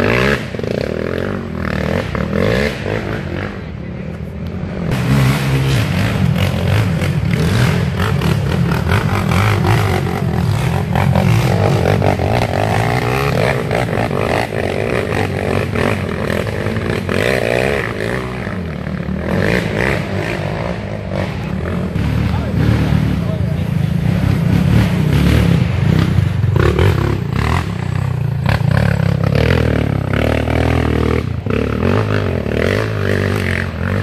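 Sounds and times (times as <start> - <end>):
quad engines revving: 0.0 - 34.0.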